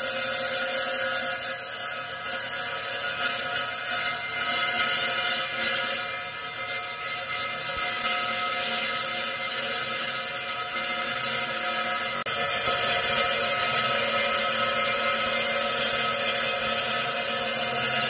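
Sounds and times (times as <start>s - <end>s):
saw blade cutting stone: 0.0s - 18.0s.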